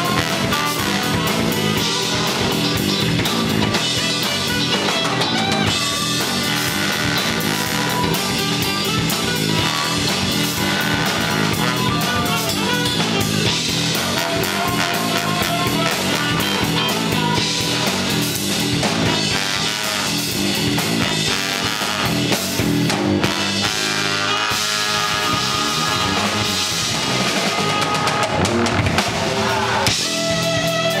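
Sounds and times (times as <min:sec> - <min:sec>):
horns playing: 0:00.0 - 0:22.6, 0:23.2 - 0:31.0
drum kit: 0:00.0 - 0:31.0
electric bass guitar: 0:00.0 - 0:31.0.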